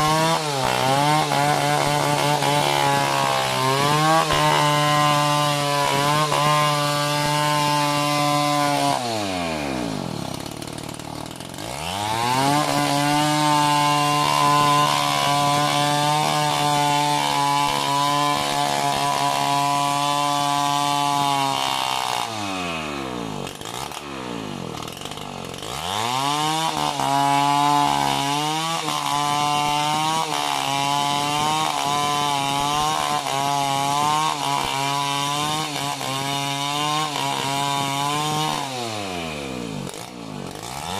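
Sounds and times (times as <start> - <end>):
chainsaw cutting tree trunk: 0.0 - 40.9.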